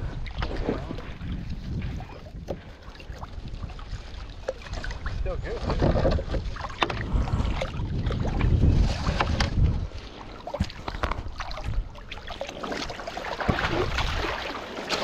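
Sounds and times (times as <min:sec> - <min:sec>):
wind rumbling on microphone: 0:00.0 - 0:14.4.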